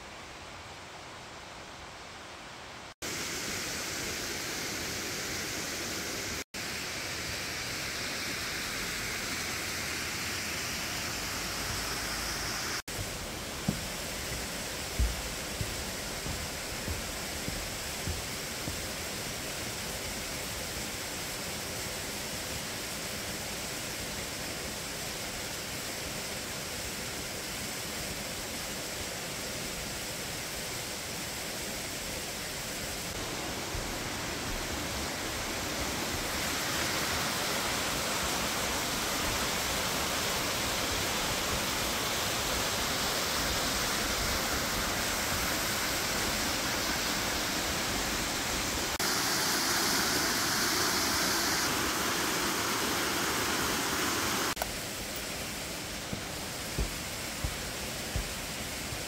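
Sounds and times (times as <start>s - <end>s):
waterfall rushing over rock: 2.8s - 59.0s.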